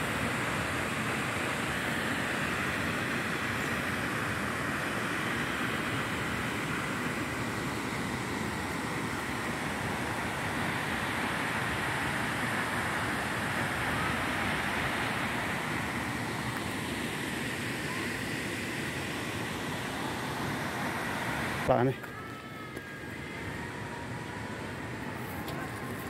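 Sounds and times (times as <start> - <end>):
waterfall rushing: 0.0 - 21.9.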